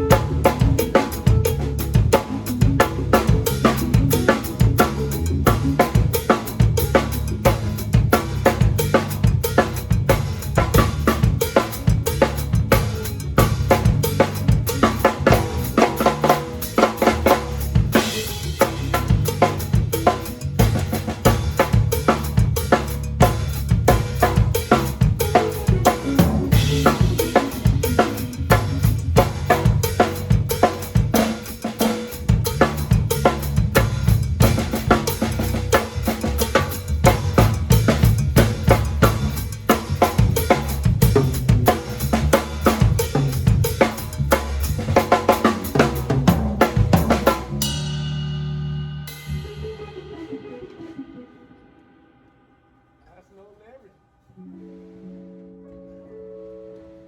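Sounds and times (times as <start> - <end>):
drum kit groove: 0.0 - 51.7.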